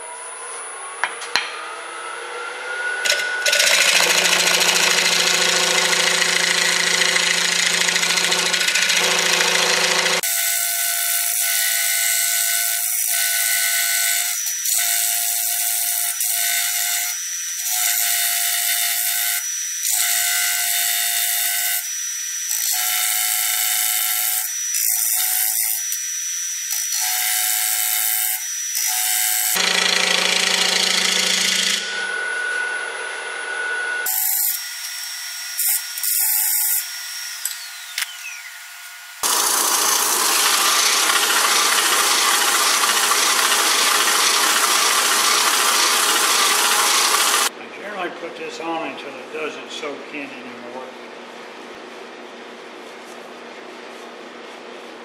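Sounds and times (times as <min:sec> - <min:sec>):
wood lathe whine: 0:00.0 - 0:47.5.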